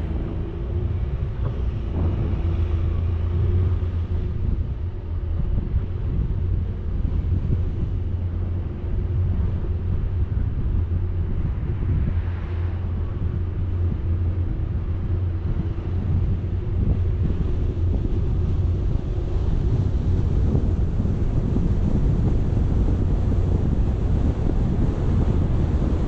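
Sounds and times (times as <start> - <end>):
vehicle engine and road rumble: 0.0 - 26.0
wind on microphone: 0.0 - 26.0.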